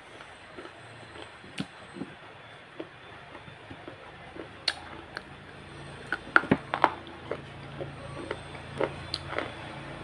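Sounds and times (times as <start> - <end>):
crunching of crisp food: 0.0 - 10.0.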